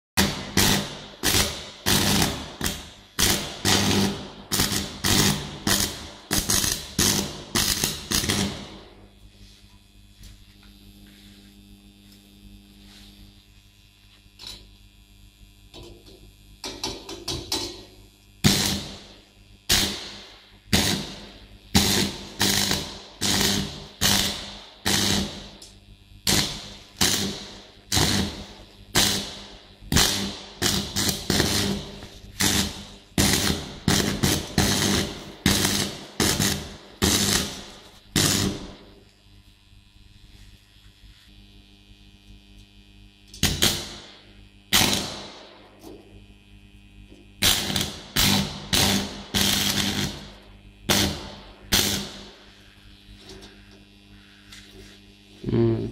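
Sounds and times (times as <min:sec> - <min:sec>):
crackling welding arcs: 0:00.2 - 0:55.9.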